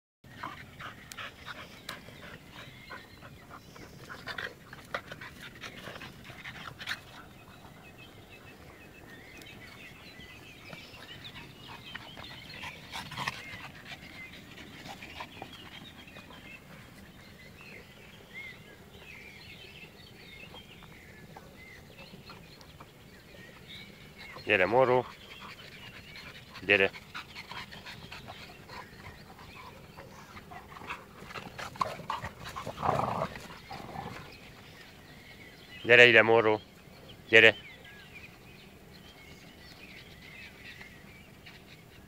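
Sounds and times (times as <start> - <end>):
dogs panting: 0.3 - 35.7.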